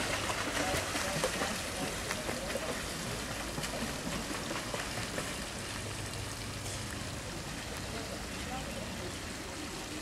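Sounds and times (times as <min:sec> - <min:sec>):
pool water splashing: 0:00.0 - 0:10.0.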